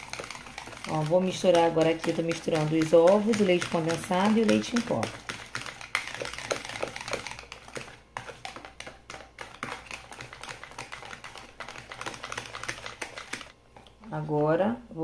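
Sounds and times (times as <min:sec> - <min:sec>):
liquid sloshing: 0:00.0 - 0:13.5
whisk clicking against bowl: 0:00.0 - 0:13.5.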